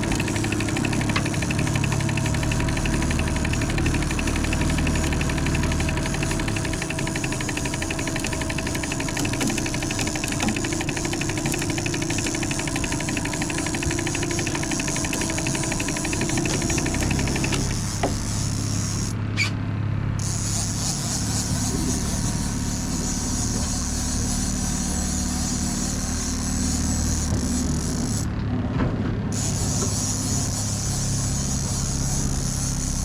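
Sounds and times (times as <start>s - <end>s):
boat engine pulsing: 0.0s - 19.2s, 20.2s - 28.3s, 29.4s - 33.0s.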